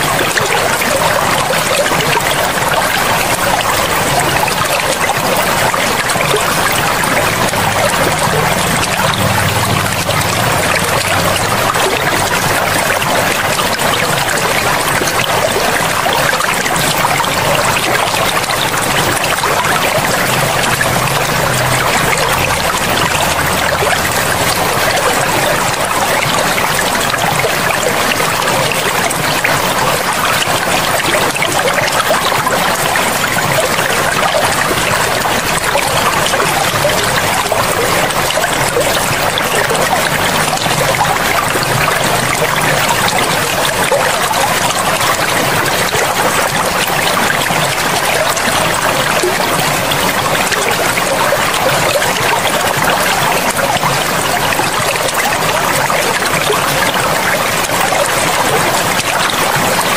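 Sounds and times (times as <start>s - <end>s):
stream rushing water: 0.0s - 59.9s.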